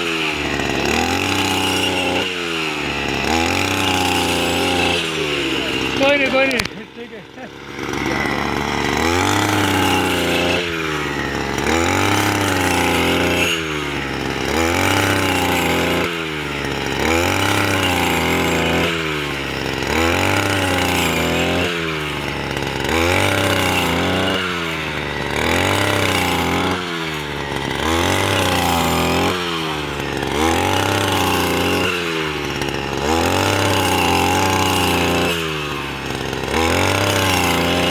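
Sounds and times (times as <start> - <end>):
harvester engine running hard: 0.0 - 37.9.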